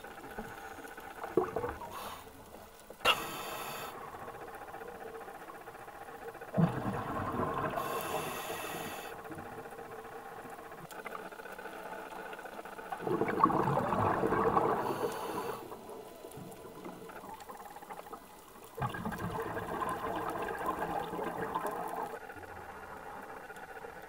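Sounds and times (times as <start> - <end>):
steady underwater background: 0.0 - 24.0
underwater bubbling: 0.0 - 24.0.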